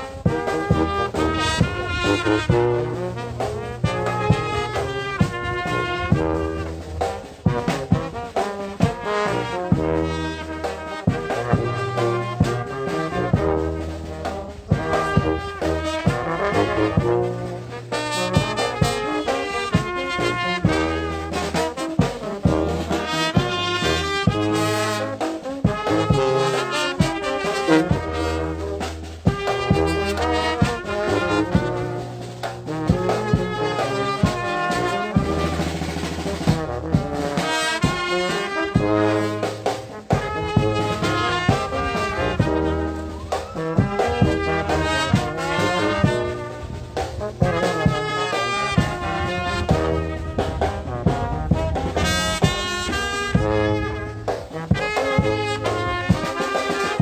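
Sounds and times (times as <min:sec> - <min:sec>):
drum beats: 0:00.0 - 0:57.0
marching brass band playing: 0:00.0 - 0:57.0.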